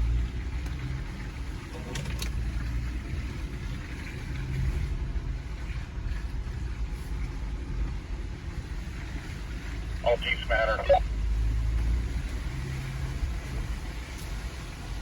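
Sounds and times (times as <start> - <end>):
engine low rumble from inside cab: 0.0 - 15.0.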